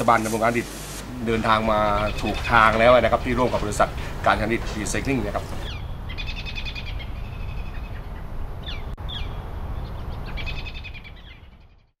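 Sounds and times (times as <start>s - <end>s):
steady low rumble: 0.8s - 11.8s
birds calling: 0.8s - 11.9s.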